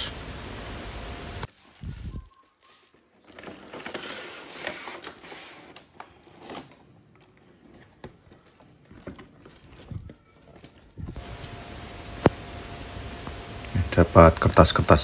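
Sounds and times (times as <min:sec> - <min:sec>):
plastic packaging crinkling: 0:01.4 - 0:12.5, 0:13.6 - 0:15.0.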